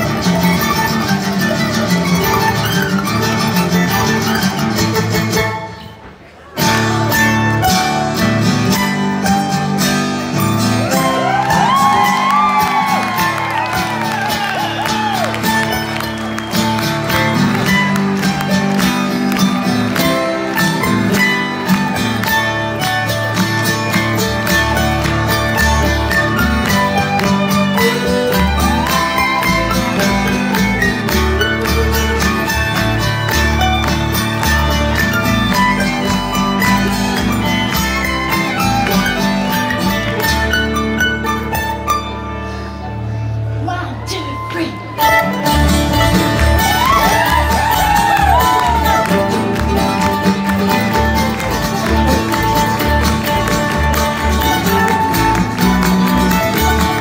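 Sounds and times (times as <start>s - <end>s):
bluegrass band playing: 0.0s - 57.0s
fiddle: 0.0s - 57.0s
upright bass line: 6.6s - 44.1s, 45.0s - 57.0s.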